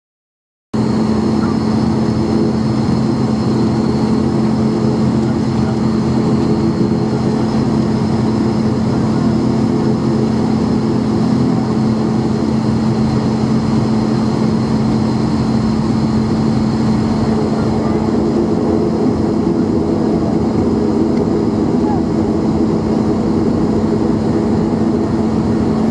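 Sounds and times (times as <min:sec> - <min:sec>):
propeller engine drone in cabin: 0:00.8 - 0:25.9.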